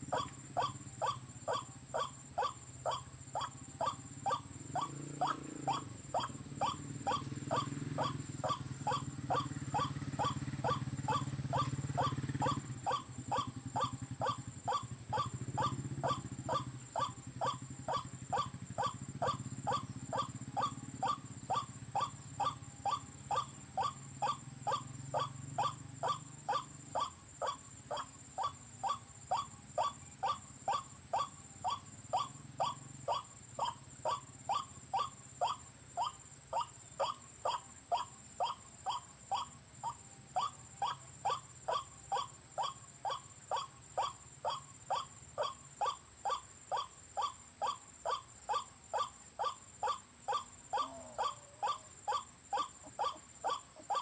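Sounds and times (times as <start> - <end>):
low moaning bird calls: 0.0 - 54.0
sharp croaking bird calls: 0.0 - 54.0.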